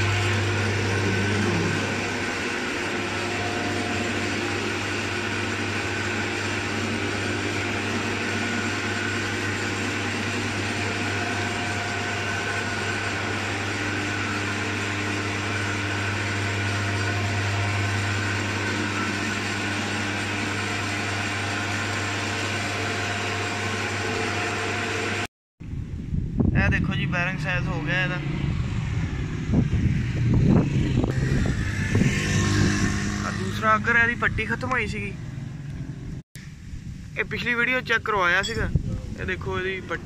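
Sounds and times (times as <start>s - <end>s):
lathe motor humming: 0.0s - 25.3s, 28.2s - 36.2s.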